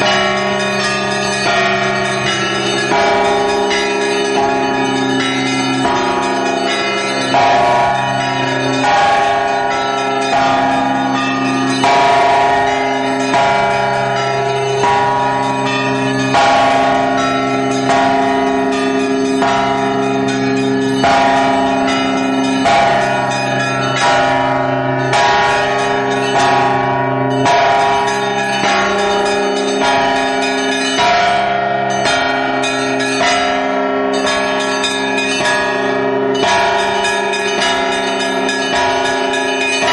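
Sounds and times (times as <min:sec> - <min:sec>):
heavy church bell strokes: 0:00.0 - 0:39.9
small bells struck rhythmically: 0:00.0 - 0:39.9.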